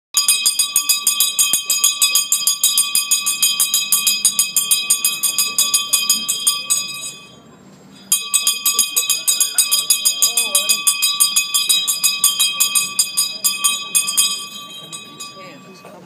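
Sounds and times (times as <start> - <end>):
handbell rung rapidly: 0.2 - 7.4, 8.1 - 16.0.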